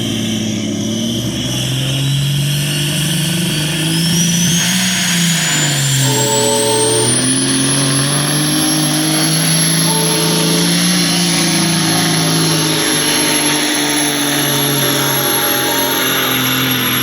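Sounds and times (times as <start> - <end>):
diesel truck engine running hard: 0.0 - 17.0
thin high whine: 0.0 - 17.0.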